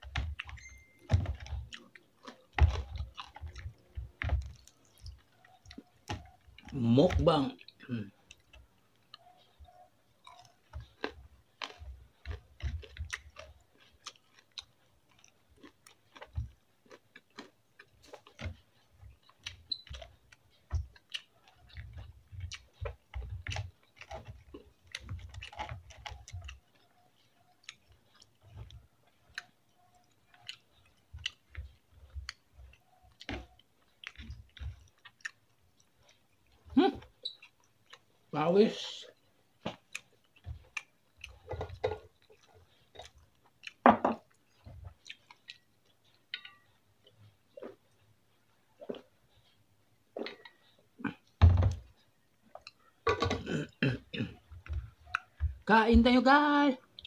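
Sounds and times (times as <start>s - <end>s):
chewing and mouth clicks: 0.0s - 55.8s, 56.8s - 57.0s.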